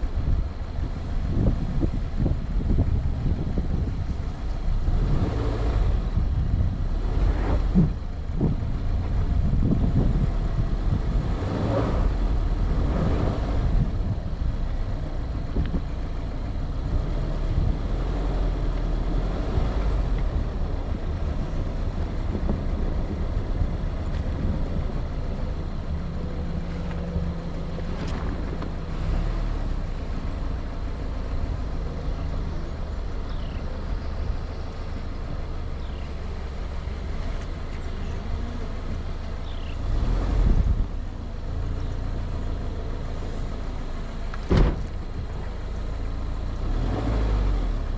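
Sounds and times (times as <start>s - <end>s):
car engine running at low speed: 0.0s - 47.9s
tyres rolling over dirt track: 0.0s - 47.9s.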